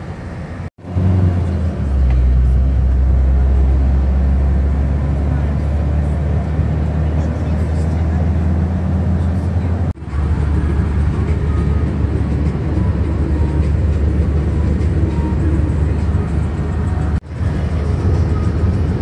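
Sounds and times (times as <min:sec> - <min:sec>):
road and engine rumble inside vehicle: 0:00.0 - 0:19.0.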